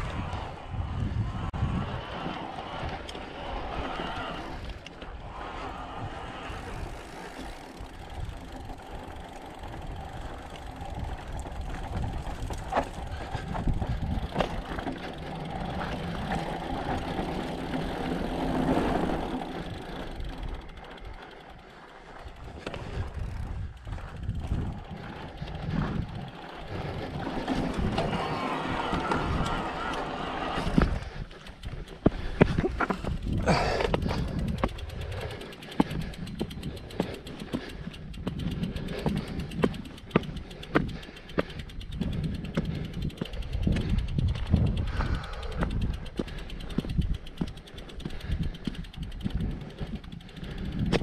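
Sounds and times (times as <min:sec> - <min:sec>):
bike parts rattling: 0:00.0 - 0:51.0
bike tyres rumbling: 0:00.0 - 0:51.0.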